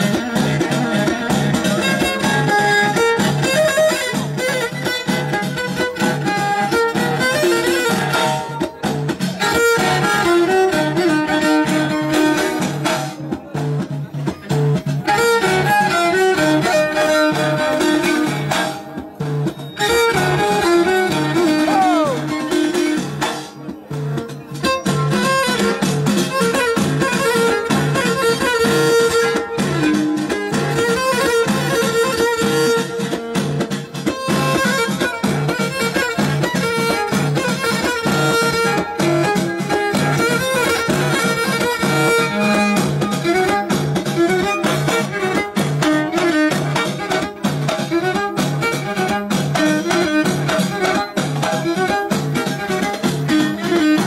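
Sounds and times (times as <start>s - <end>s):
frame drums beating: 0.0s - 54.0s
violin playing folk tune: 0.0s - 54.0s.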